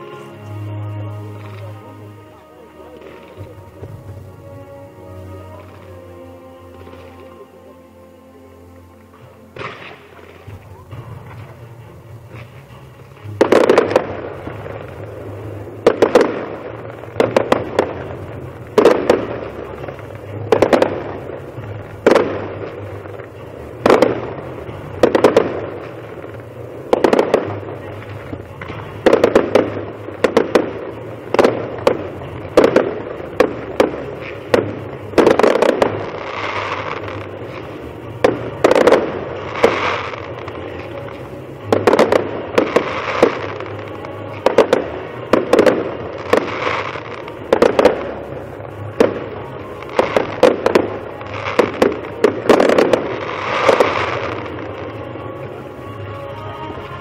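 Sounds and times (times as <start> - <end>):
fireworks bursting with bangs: 0.0 - 7.7, 8.4 - 57.0
fireworks hissing and crackling: 0.0 - 57.0.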